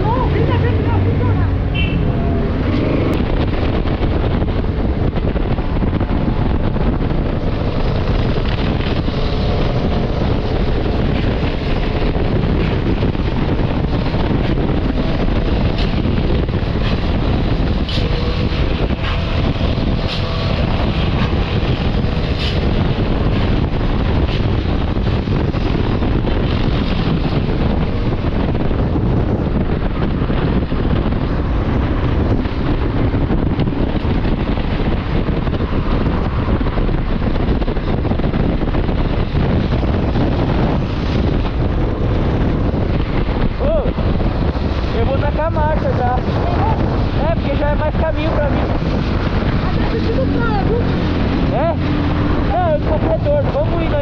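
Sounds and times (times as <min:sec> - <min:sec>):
motorcycle engine: 0:00.0 - 0:54.0
wind rushing over microphone: 0:00.0 - 0:54.0.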